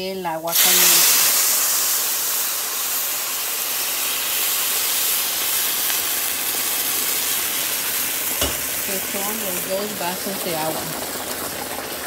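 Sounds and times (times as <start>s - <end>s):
water hissing in a hot pan: 0.5s - 12.0s.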